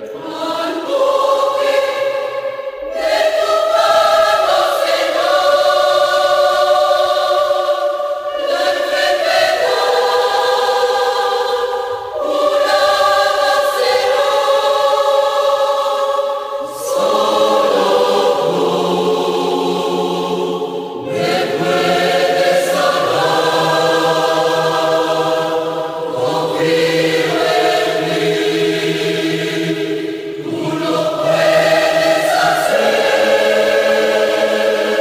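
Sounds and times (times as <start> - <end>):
choir singing a hymn: 0.0 - 35.0.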